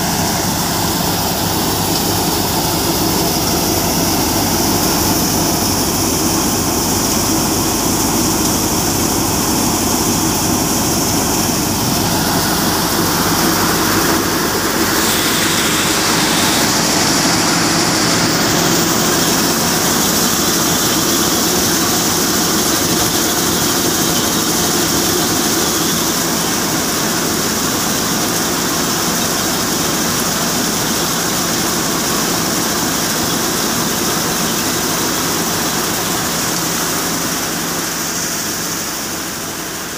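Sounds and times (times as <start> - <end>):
hiss of straw and grain: 0.0 - 39.9
thresher machine drone: 0.0 - 39.9.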